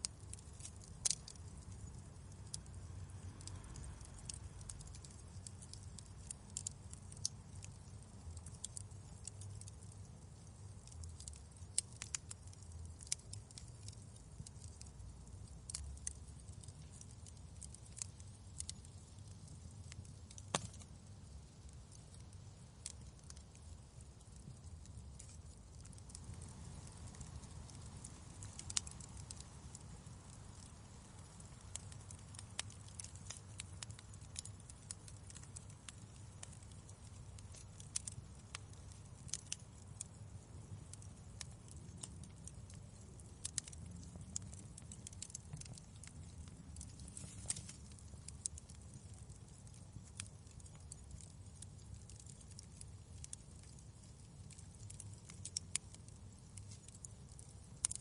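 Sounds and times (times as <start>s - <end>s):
fireplace crackling: 0.0s - 58.0s.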